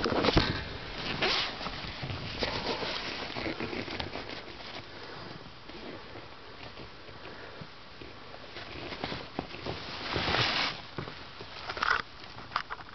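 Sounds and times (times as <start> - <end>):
fabric rustling against camera: 0.0 - 7.0, 8.0 - 12.9.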